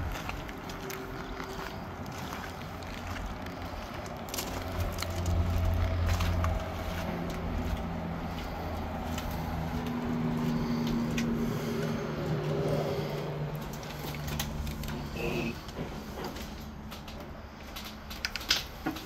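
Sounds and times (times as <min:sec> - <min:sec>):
vehicle engine running: 0:00.0 - 0:18.9.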